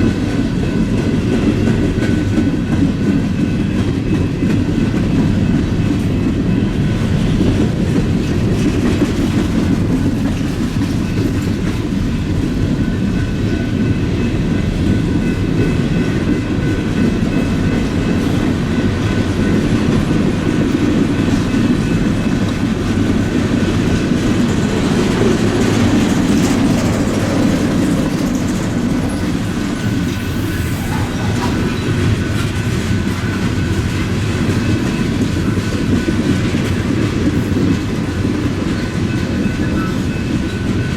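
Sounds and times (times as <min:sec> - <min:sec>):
freight train wheels rumbling and clacking: 0:00.0 - 0:40.9.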